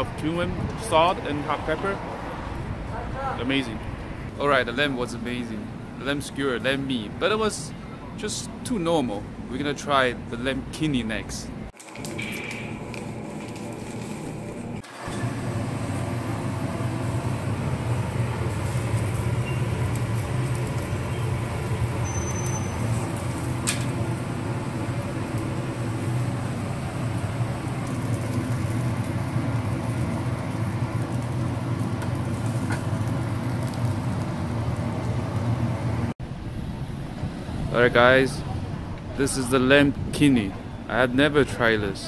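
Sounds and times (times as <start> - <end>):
low street ambience hum: 0.0 - 42.0.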